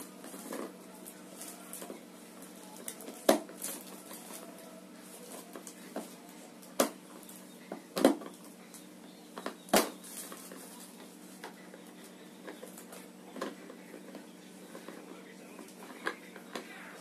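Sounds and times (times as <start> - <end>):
faint steady hum: 0.0 - 17.0
mop head rustling: 0.0 - 17.0.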